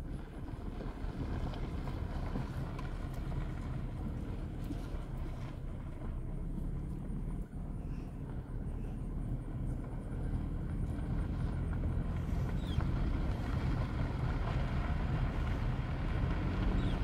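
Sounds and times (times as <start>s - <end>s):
car driving slowly: 0.0s - 17.0s.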